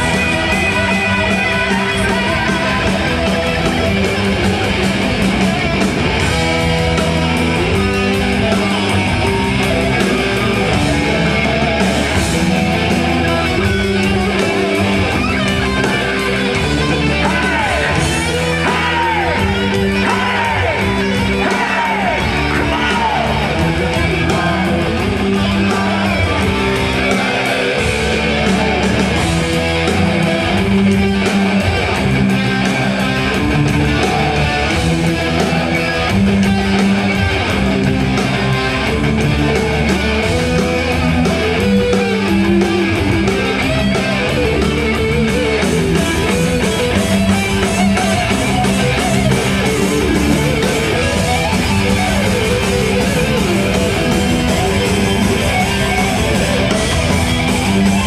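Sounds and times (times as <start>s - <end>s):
bass and drums: 0.0s - 58.0s
electric guitar: 0.0s - 58.0s.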